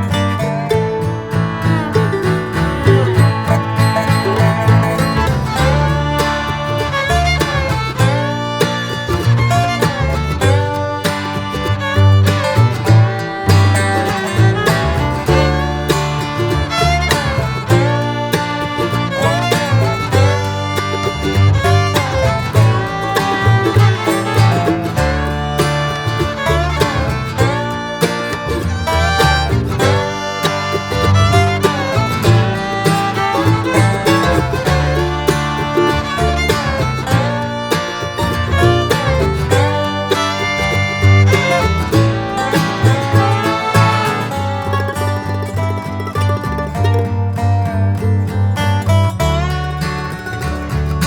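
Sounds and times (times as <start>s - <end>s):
fiddle: 0.0s - 51.0s
plucked guitar: 0.0s - 51.0s
steady bass: 0.0s - 51.0s.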